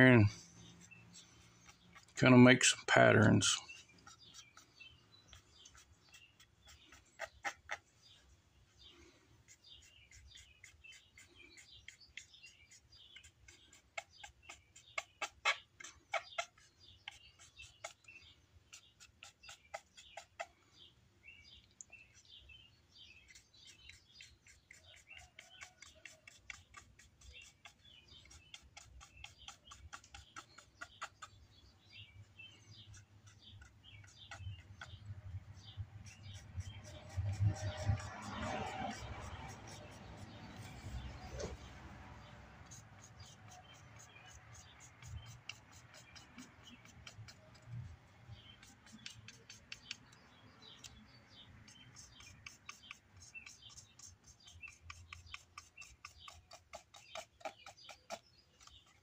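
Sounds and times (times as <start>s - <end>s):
small birds chirping: 0.0s - 59.0s
pencil scratching: 0.4s - 2.2s, 3.7s - 8.0s, 9.4s - 20.5s, 23.1s - 32.1s, 32.8s - 59.0s.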